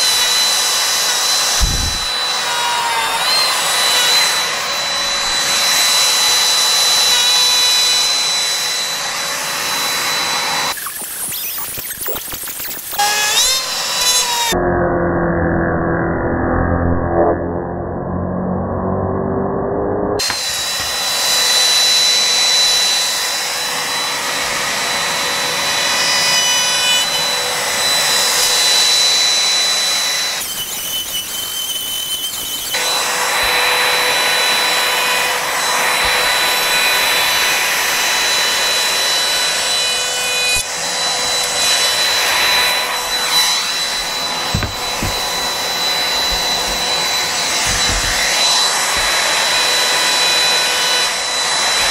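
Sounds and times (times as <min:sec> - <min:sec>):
router motor whine cutting wood: 0:00.0 - 0:14.6, 0:20.2 - 0:51.9.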